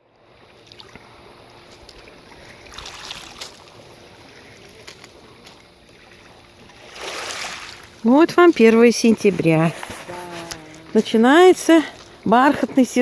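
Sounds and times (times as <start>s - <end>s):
small waves lapping at shore: 0.2s - 13.0s.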